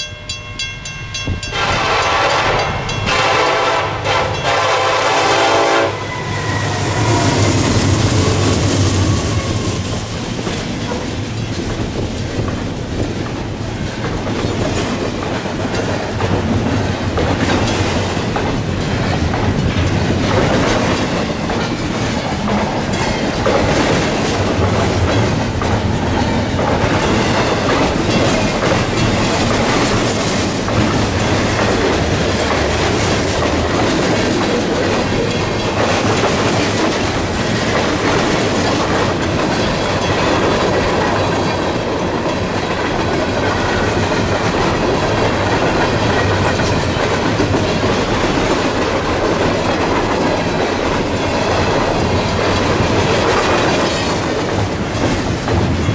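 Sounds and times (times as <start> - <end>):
freight train wheels rumbling on rail: 0.0 - 55.9
clickety-clack of wheel trucks: 7.0 - 55.9.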